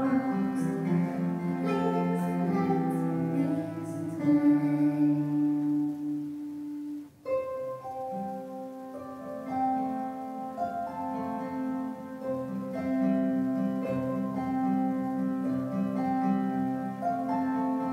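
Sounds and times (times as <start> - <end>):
acoustic guitar: 0.0 - 17.9
cello: 0.0 - 17.9
harp: 0.0 - 17.9.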